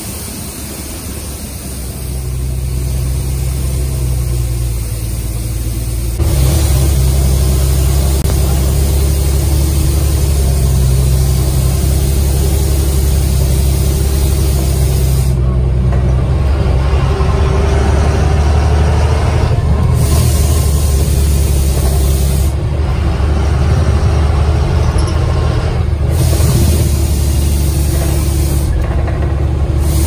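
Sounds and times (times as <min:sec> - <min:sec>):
bus engine running: 0:00.0 - 0:30.0
road noise: 0:00.0 - 0:30.0.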